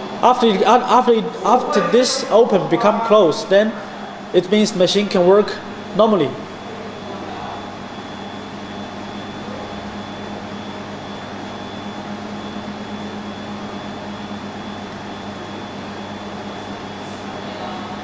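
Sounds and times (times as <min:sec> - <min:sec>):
faint high whine: 0:00.0 - 0:18.0
machine hum and fan noise: 0:00.0 - 0:18.0.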